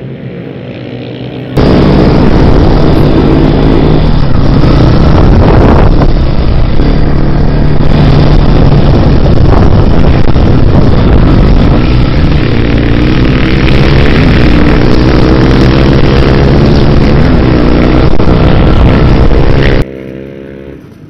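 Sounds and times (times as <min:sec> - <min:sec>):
dirt bike engine running: 0:00.7 - 0:20.8
wind noise on microphone: 0:01.5 - 0:19.9.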